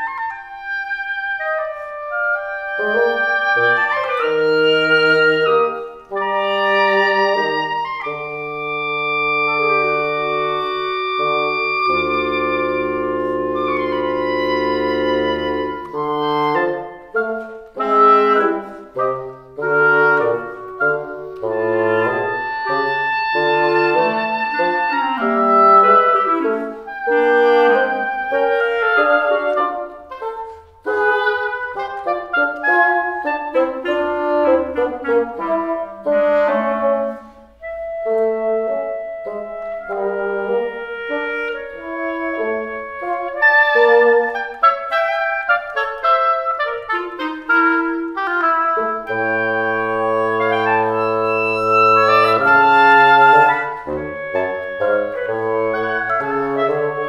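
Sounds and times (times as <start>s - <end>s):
bassoon: 0.0s - 57.0s
clarinet: 0.0s - 57.0s
oboe: 0.0s - 57.0s.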